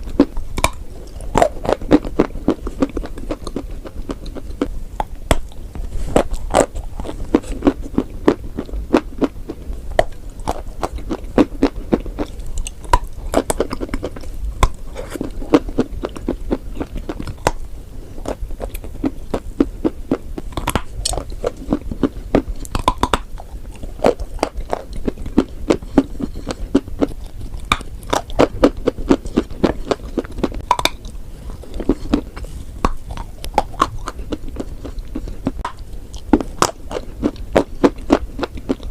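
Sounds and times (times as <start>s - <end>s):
chalk being chewed: 0.0s - 38.9s.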